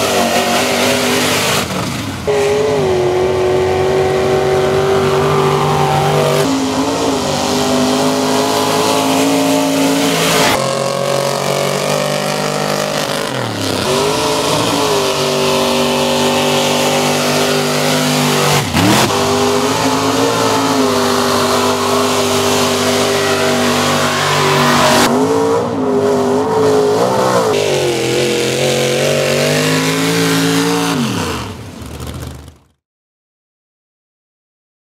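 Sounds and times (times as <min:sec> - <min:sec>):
truck engines at high revs: 0:00.0 - 0:32.8.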